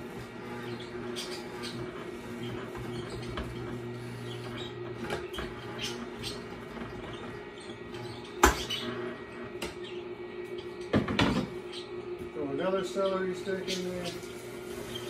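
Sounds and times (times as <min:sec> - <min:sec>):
crackles and squeaks of crushing: 0:00.0 - 0:12.0, 0:13.7 - 0:15.0
juicer humming: 0:00.0 - 0:15.0.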